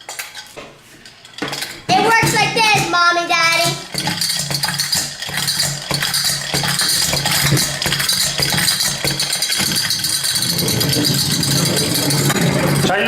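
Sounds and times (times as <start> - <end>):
toy spinner rattling: 0.0 - 13.0.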